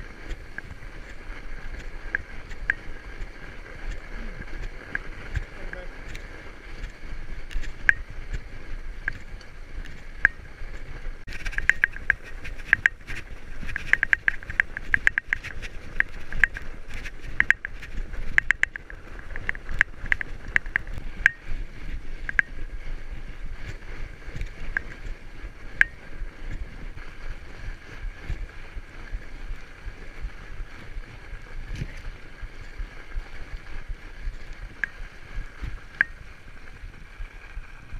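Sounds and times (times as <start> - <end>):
bike clicks and rattles: 0.0 - 37.9
tyres rumbling on snow: 0.0 - 37.9
wind on microphone: 0.0 - 37.9.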